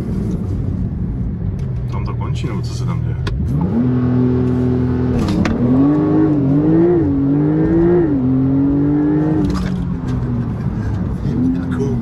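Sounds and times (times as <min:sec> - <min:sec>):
car engine accelerating with gear shifts: 0:00.0 - 0:12.0.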